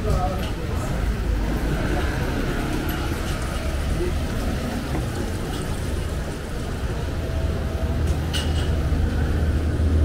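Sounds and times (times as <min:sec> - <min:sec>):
low rumble of city street: 0:00.0 - 0:10.0.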